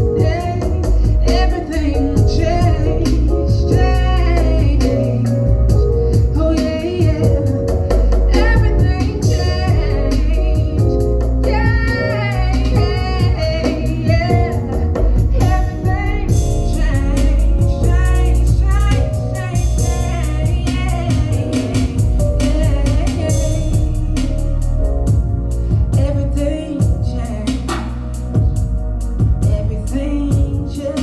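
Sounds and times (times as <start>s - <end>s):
woman singing: 0.0s - 24.8s, 25.8s - 28.6s, 29.3s - 31.0s
r and b accompaniment with heavy bass: 0.0s - 31.0s.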